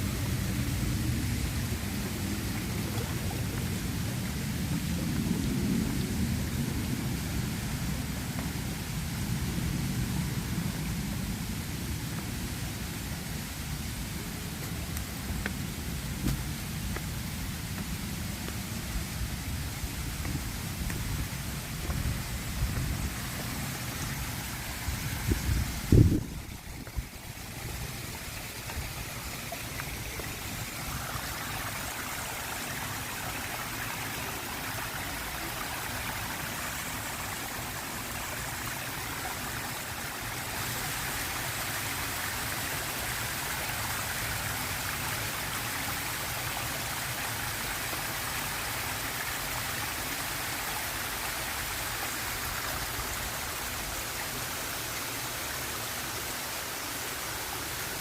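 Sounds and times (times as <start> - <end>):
waterfall rushing and splashing: 0.0 - 58.0.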